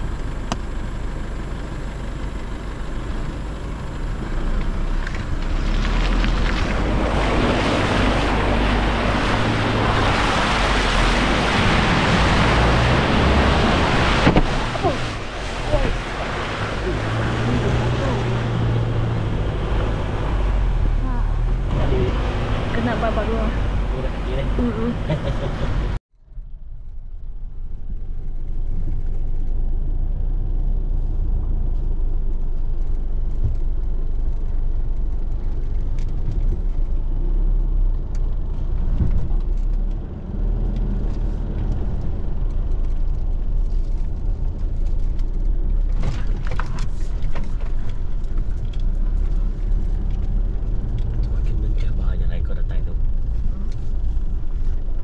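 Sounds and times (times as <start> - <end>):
vehicle rumbling on rough track: 0.0 - 55.0.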